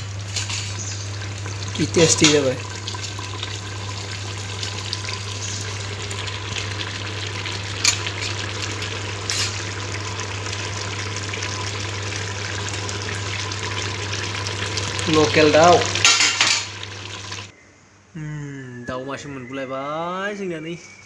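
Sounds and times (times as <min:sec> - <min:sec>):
curry simmering and sizzling: 0:00.0 - 0:17.5.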